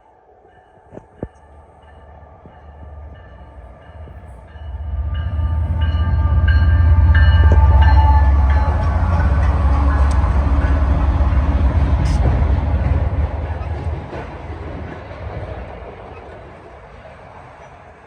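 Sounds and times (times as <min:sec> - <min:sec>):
locomotive rumble: 0:01.0 - 0:18.0.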